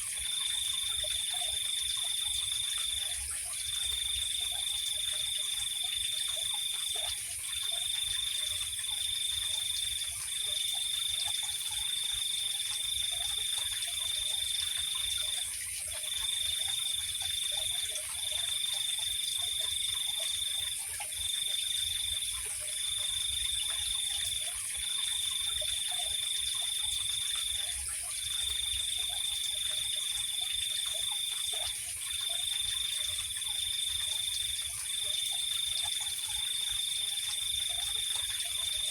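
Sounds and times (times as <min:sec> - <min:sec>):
continuous insect buzz: 0:00.0 - 0:38.9.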